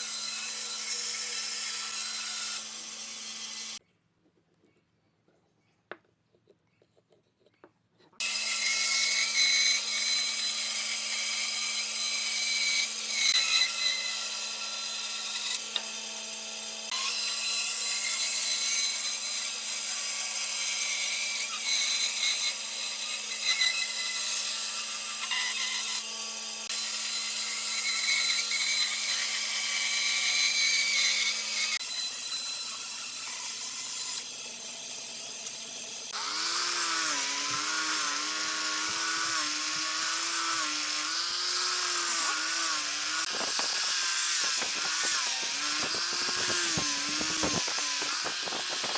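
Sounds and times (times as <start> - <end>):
electric power tool cutting wood: 0.0 - 3.8, 8.2 - 48.9.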